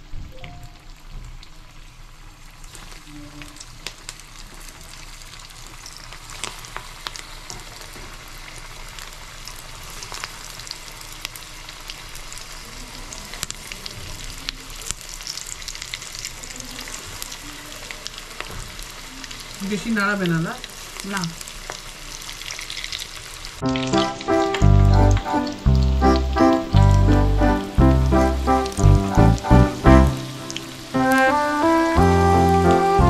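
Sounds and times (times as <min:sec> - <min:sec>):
balls deep-frying in oil: 0:00.1 - 0:32.0
oil popping and crackling: 0:00.4 - 0:31.3.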